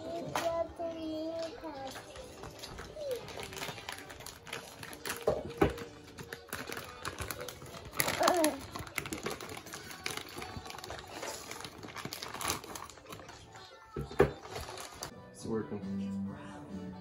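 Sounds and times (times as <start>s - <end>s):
plastic packaging crinkling: 1.3s - 15.1s.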